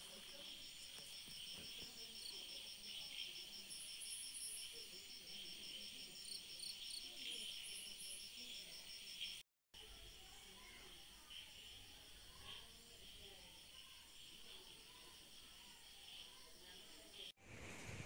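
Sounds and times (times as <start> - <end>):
insects calling: 0.0 - 17.3
crickets chirping: 0.0 - 17.4.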